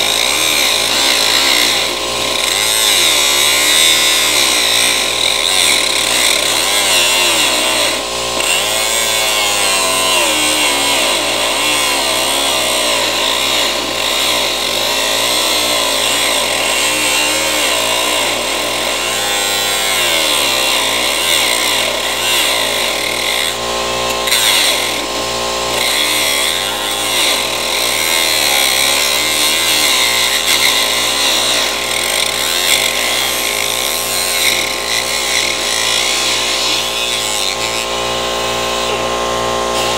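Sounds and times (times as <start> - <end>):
handheld power tool whining: 0.0 - 39.9.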